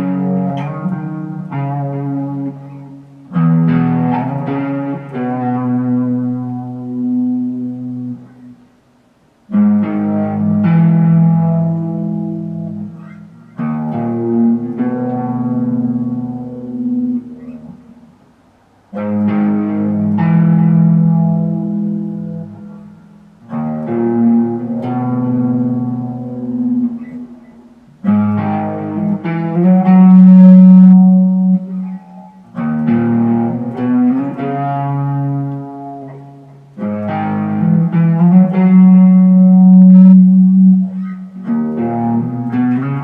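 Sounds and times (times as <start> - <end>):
ambient guitar chords with delay: 0.0 - 43.0.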